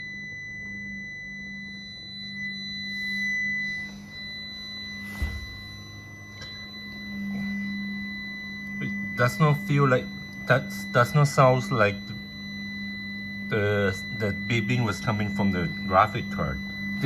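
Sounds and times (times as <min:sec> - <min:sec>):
computer fans humming: 0:00.0 - 0:17.0
high-pitched beeping tone: 0:01.4 - 0:17.0.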